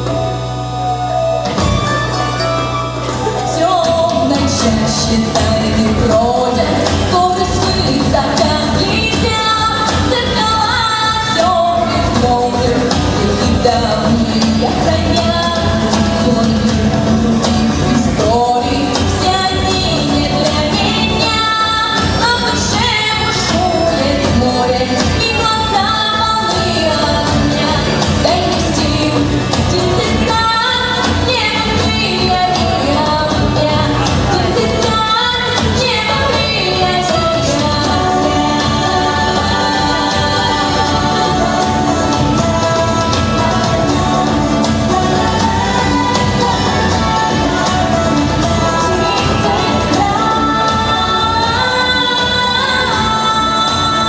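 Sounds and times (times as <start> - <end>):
instrumental accompaniment with beat: 0.0 - 54.0
woman singing a pop song: 3.1 - 54.0.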